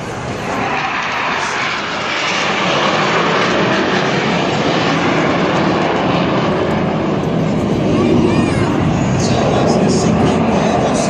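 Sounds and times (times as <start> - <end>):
jets passing overhead: 0.0 - 11.0.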